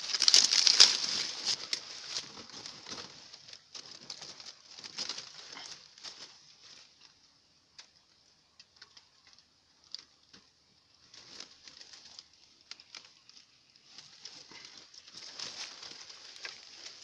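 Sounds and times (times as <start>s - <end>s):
rustling of dry leaves: 0.0s - 17.0s.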